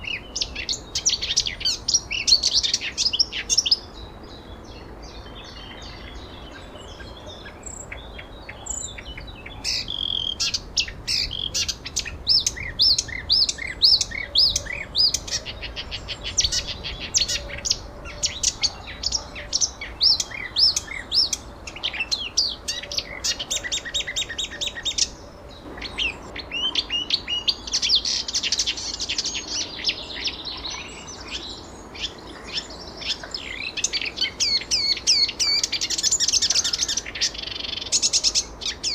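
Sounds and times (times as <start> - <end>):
faint steady background noise: 0.0 - 38.9
songbirds chirping and singing: 0.0 - 38.9.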